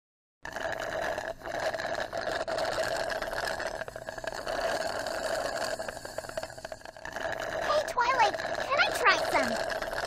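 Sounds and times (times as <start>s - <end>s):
slurping soda through a straw: 0.4s - 10.0s.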